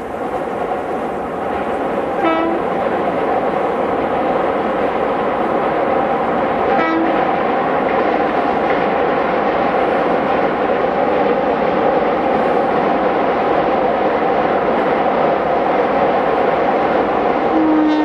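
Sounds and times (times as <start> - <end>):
train rumbling over bridge: 0.0 - 18.0.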